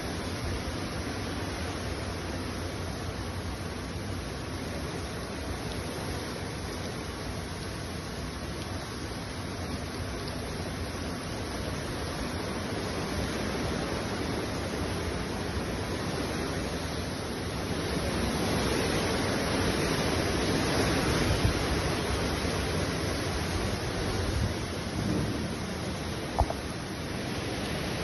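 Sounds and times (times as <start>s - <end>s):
wind and rain rushing: 0.0s - 28.0s.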